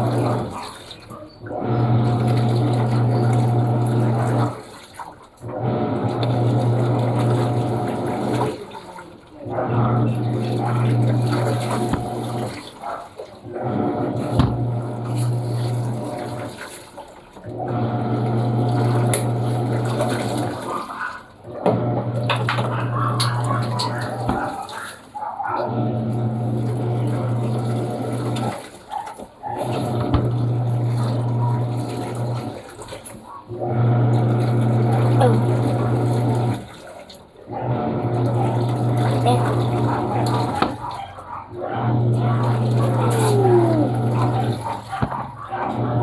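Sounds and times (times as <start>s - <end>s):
washing machine motor hum: 0.0s - 46.0s
water sloshing in tub: 0.0s - 46.0s.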